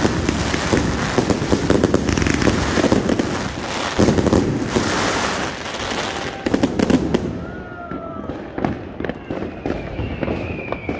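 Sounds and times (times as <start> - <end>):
firework cake crackling and banging: 0.0 - 10.9.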